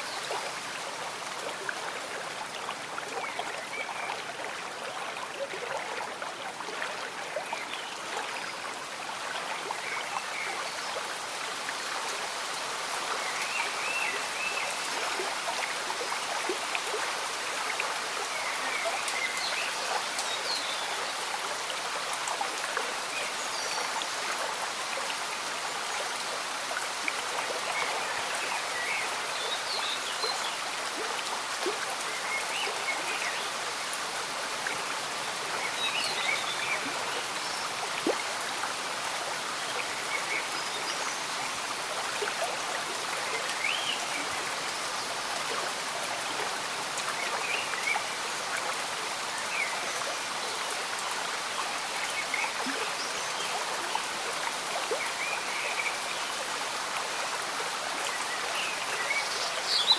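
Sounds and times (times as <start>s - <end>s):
light rain: 0.0s - 59.9s
stream bubbling and trickling: 0.0s - 59.9s.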